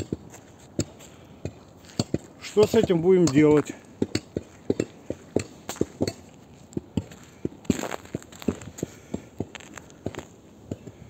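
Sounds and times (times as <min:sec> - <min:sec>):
footsteps on snow: 0:00.0 - 0:11.0.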